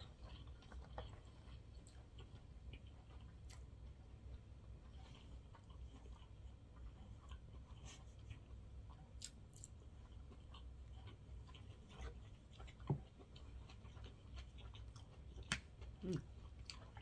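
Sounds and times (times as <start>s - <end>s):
chewing and mouth sounds: 0.0s - 17.0s
low steady hum: 0.0s - 17.0s.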